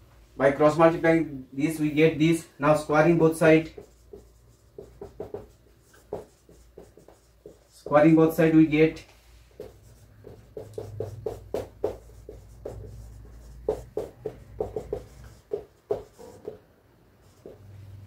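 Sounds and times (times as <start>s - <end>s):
marker pen writing on whiteboard: 2.8s - 18.0s.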